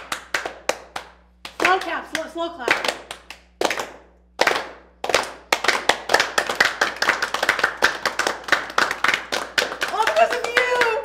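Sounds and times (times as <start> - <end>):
group slow clapping into applause: 0.0 - 11.0.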